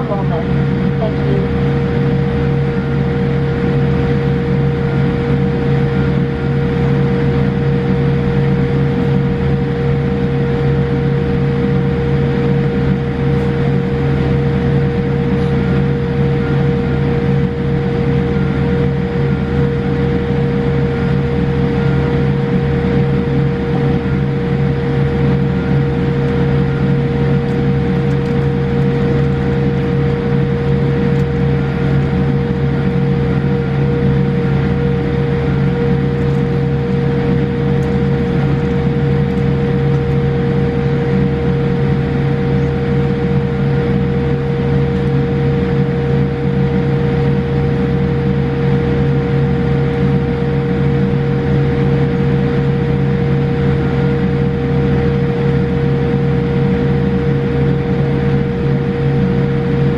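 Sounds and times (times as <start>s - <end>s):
airliner cabin hum and rush: 0.0s - 59.9s
constant whine: 0.0s - 59.9s.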